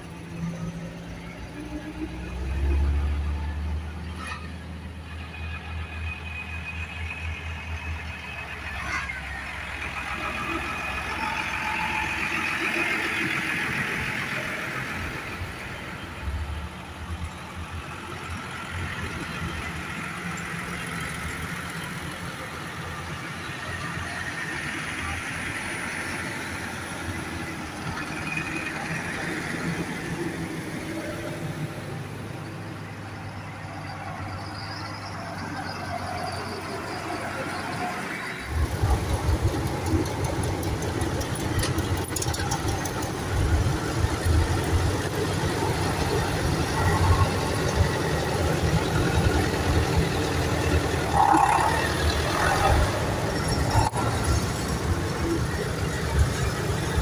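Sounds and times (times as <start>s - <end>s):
tractor diesel engines: 0.0s - 57.0s
tyres rolling on tarmac: 0.0s - 57.0s.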